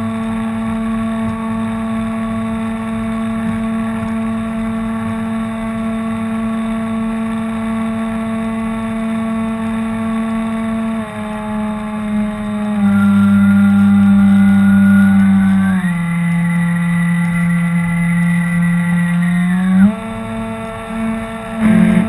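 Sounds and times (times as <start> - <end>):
model boat motor whine: 0.0 - 22.0.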